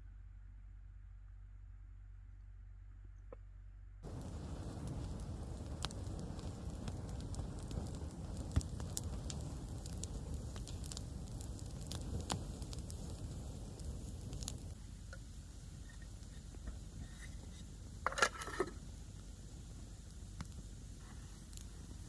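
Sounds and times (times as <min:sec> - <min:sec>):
campfire crackling and popping: 0:04.0 - 0:22.0.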